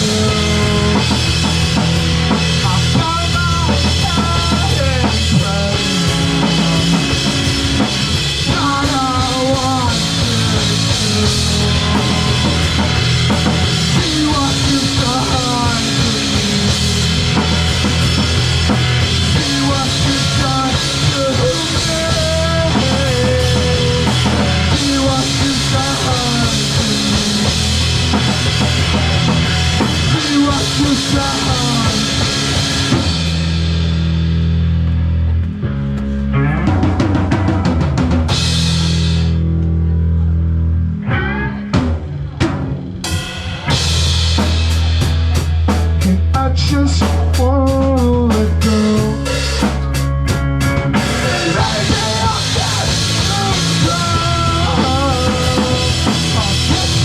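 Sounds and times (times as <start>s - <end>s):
drum kit: 0.0s - 40.3s, 41.2s - 57.0s
live rock band playing: 0.0s - 57.0s.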